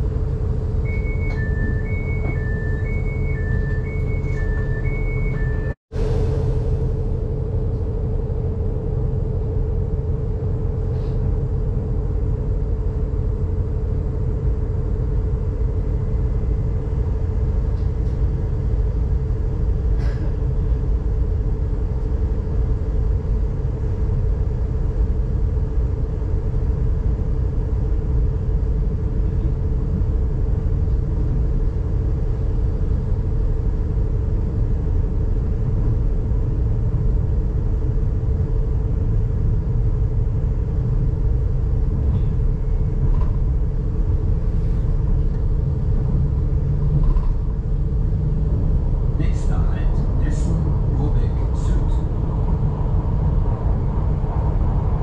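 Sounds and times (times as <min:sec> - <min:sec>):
train interior rumble and hum: 0:00.0 - 0:55.0.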